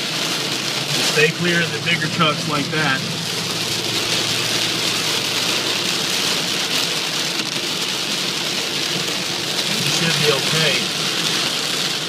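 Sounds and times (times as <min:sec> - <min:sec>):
truck driving rumble: 0:00.0 - 0:11.4
heavy rain on a truck: 0:00.0 - 0:12.0.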